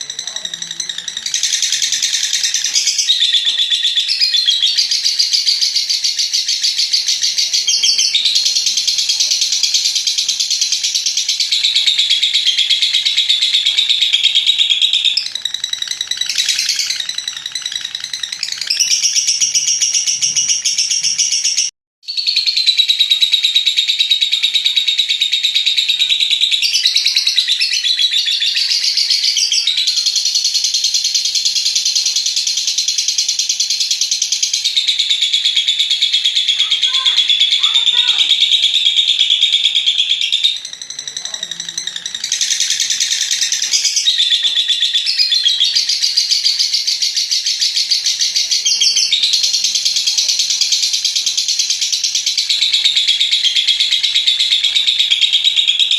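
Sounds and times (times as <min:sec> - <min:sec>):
bird chattering trill: 0:00.0 - 0:55.9.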